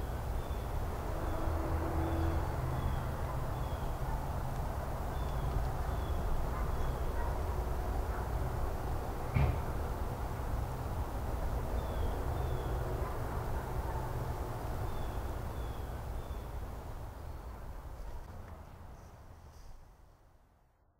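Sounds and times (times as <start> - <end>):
steady low street rumble: 0.0 - 20.9.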